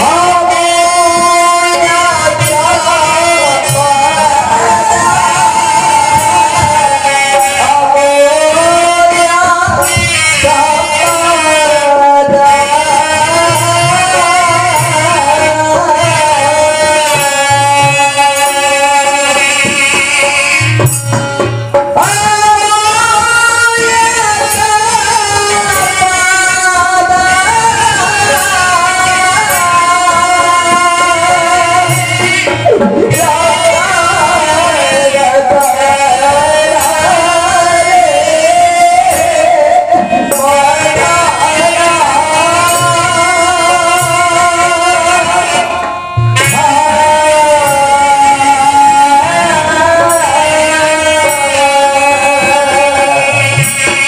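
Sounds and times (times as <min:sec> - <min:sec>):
drum strokes: 0:00.0 - 0:54.0
harmonium: 0:00.0 - 0:54.0.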